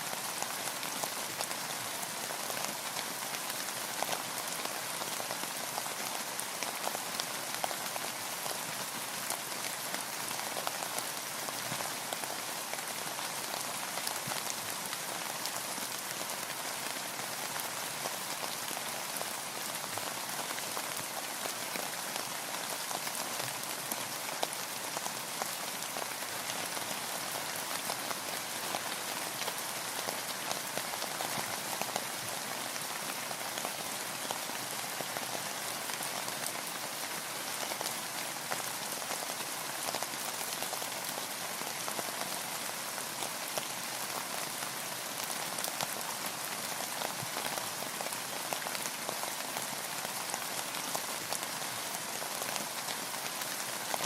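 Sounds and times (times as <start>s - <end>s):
rain falling on a boat: 0.0s - 54.0s.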